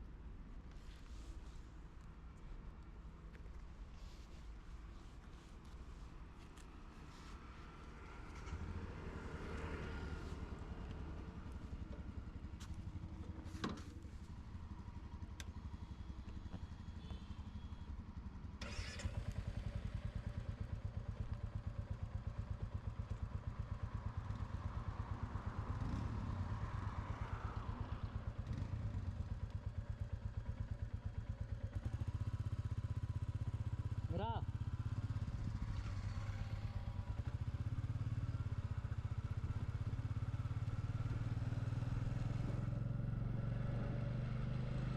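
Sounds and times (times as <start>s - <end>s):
motorcycle engine running: 7.4s - 44.9s.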